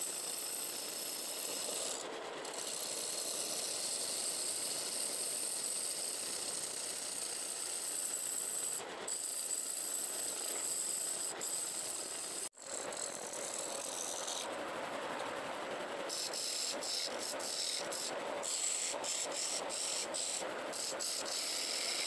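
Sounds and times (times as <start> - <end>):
lathe tool scraping wood: 0.0 - 14.5, 16.1 - 22.0.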